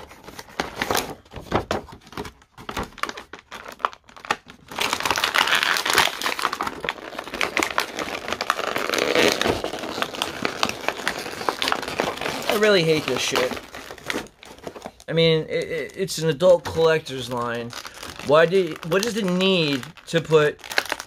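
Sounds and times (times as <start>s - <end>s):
plastic crinkling and rustling: 0.0s - 21.0s
plastic packaging clicks and scrapes: 0.0s - 21.0s.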